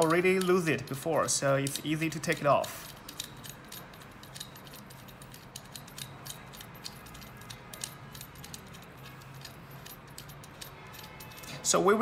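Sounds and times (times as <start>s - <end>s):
metallic clicks and rattles: 0.0s - 11.8s.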